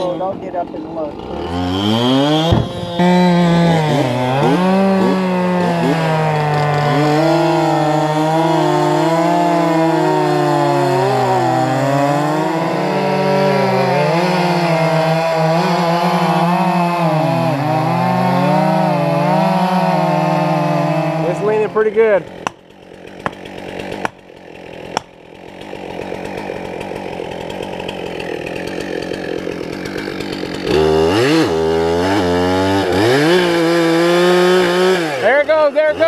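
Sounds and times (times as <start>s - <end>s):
chainsaws cutting log: 0.0s - 36.0s.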